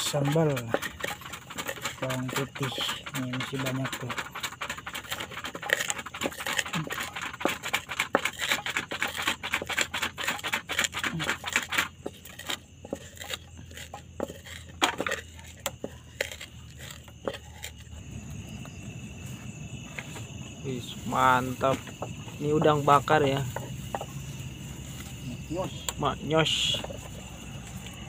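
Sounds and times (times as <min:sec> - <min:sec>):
pestle grinding in mortar: 0:00.0 - 0:28.0.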